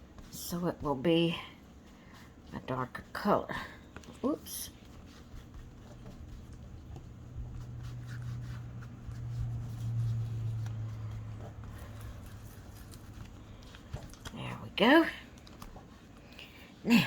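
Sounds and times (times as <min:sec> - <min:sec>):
ink pad dabbing on paper: 0:00.0 - 0:17.0
low steady hum: 0:00.0 - 0:17.0.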